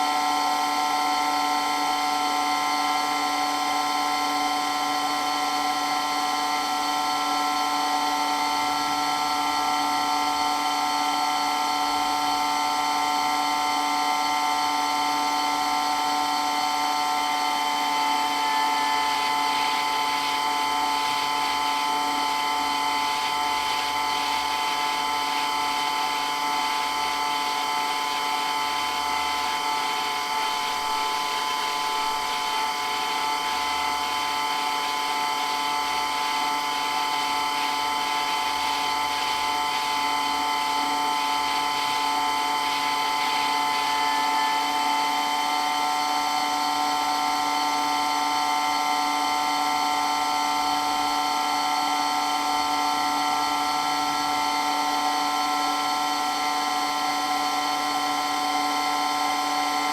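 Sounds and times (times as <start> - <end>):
water pump whining: 0.0 - 59.9.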